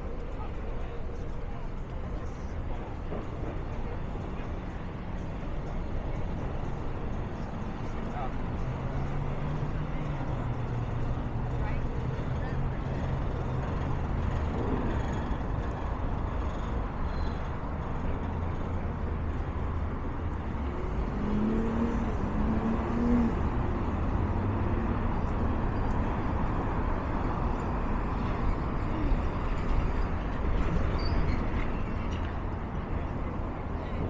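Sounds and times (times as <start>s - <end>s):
city street traffic: 0.0s - 34.0s.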